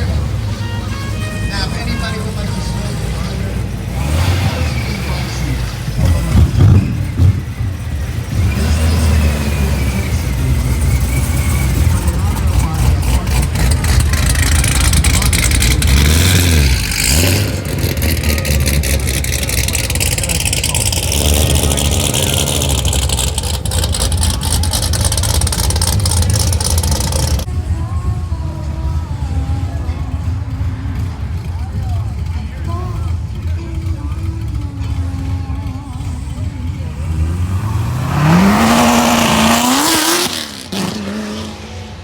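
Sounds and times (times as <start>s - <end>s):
muscle car engine revving: 0.0s - 42.0s
voices: 0.0s - 42.0s.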